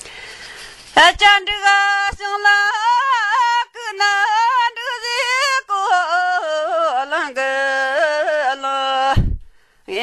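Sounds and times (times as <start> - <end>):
woman singing unaccompanied: 0.9 - 10.0.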